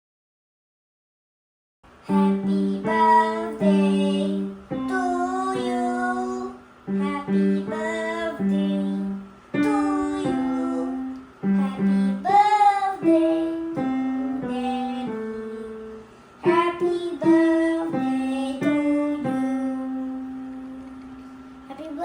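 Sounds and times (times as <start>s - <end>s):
child singing: 2.0s - 20.2s, 21.7s - 22.0s.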